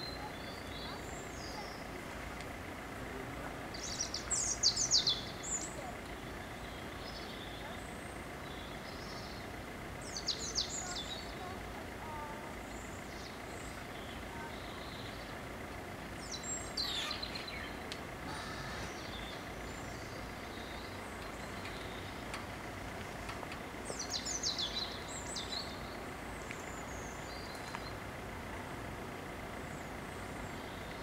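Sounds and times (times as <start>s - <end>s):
outdoor background hum: 0.0s - 31.0s
small birds chirping: 0.0s - 31.0s.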